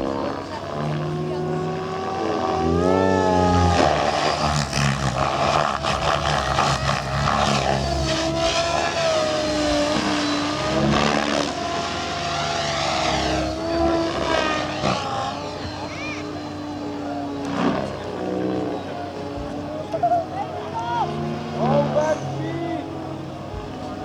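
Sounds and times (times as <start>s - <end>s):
helicopter rotor and drive whine: 0.0s - 24.0s
rushing rotor wash: 0.0s - 24.0s.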